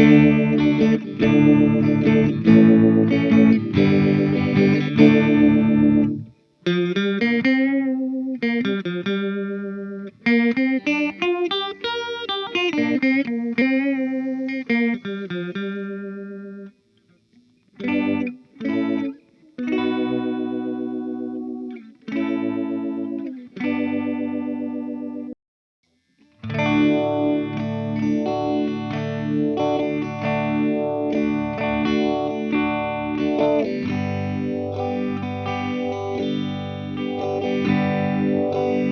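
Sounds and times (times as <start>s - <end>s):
phased electric guitar: 0.0s - 25.3s, 26.2s - 38.9s.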